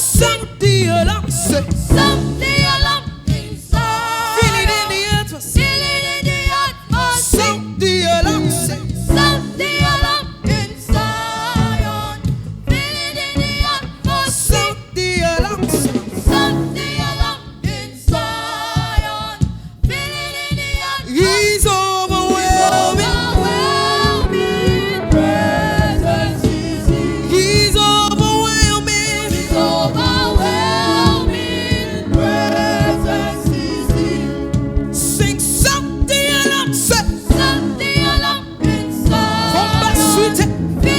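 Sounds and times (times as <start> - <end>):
group singing gospel: 0.0 - 40.9
instrumental backing: 0.0 - 40.9
steady drum beat: 0.0 - 40.9.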